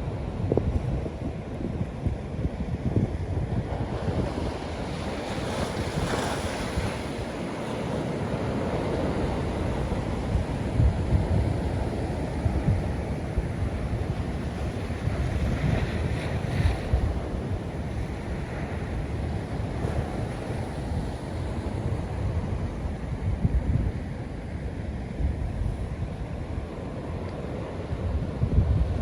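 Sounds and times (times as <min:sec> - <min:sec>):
ocean waves washing in: 0:00.0 - 0:29.0
wind buffeting microphone: 0:00.0 - 0:29.0.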